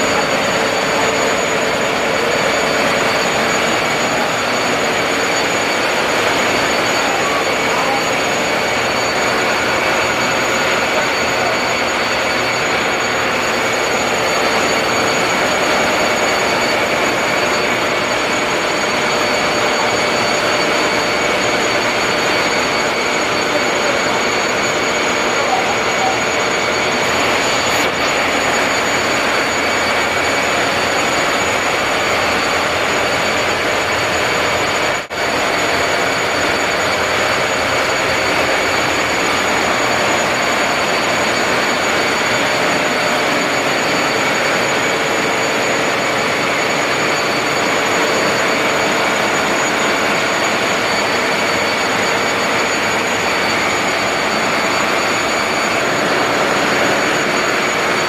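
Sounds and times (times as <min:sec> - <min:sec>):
engine room machinery roar: 0:00.0 - 0:58.0
high machinery whines: 0:00.0 - 0:58.0.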